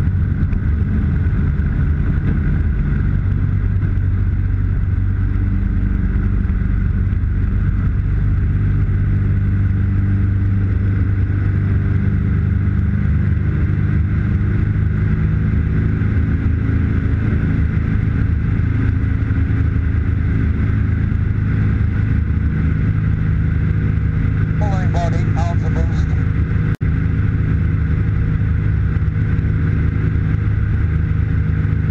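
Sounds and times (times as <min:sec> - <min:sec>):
aircraft engine and propeller: 0:00.0 - 0:31.9.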